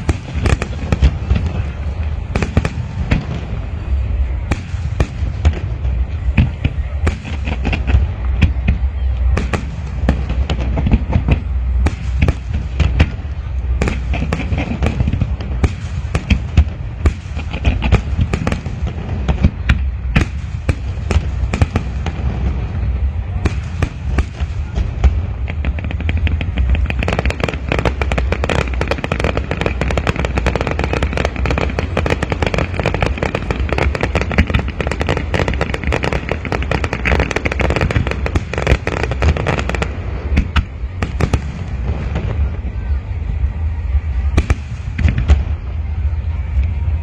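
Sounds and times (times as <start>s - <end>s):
fireworks booming bursts: 0.0s - 47.0s.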